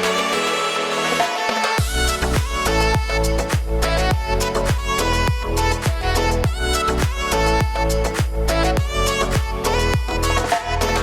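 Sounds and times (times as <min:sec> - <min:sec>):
kick-drum beat: 0:01.8 - 0:10.8.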